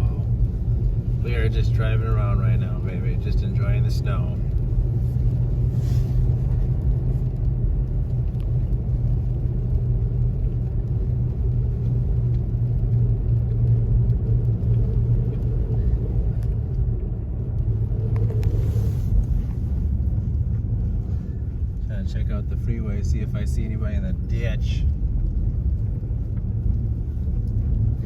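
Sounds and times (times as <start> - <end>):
truck engine hum: 0.0 - 28.0
tyre road noise: 0.0 - 28.0.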